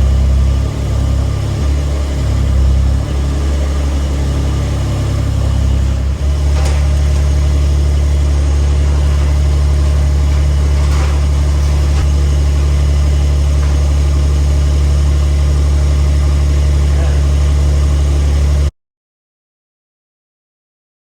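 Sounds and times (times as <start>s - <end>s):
engine running: 0.0s - 18.7s.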